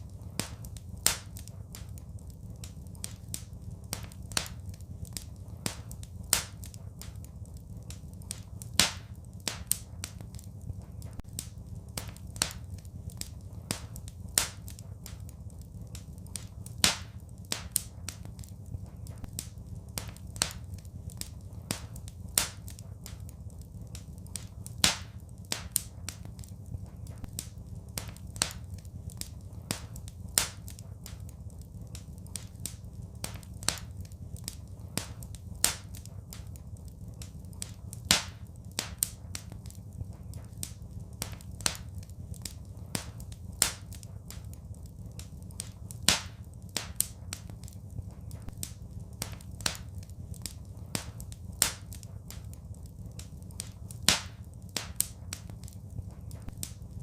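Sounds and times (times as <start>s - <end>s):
fireplace fire crackling: 0.0s - 57.0s
steady low rumble: 0.0s - 57.0s.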